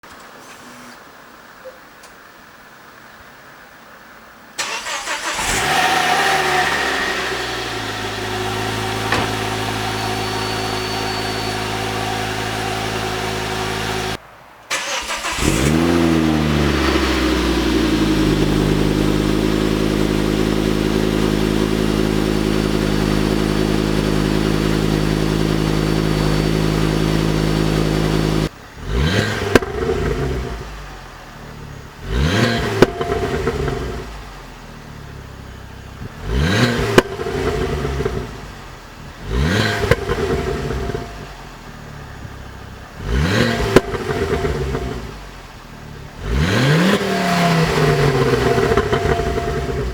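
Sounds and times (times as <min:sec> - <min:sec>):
engine revving: 0:04.6 - 0:31.0, 0:31.9 - 0:34.6, 0:36.0 - 0:41.6, 0:42.9 - 0:49.9
car engine idling: 0:04.6 - 0:49.9
exhaust crack: 0:04.6 - 0:49.9.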